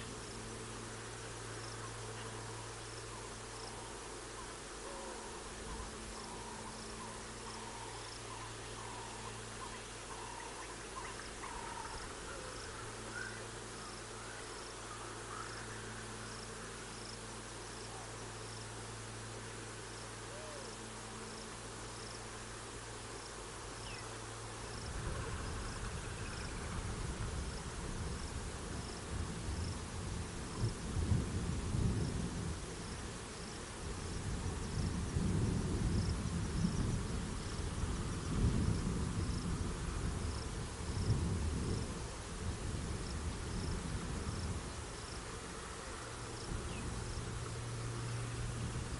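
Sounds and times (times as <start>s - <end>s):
insect chirping: 0.0s - 48.9s
steady low hum: 0.0s - 48.9s.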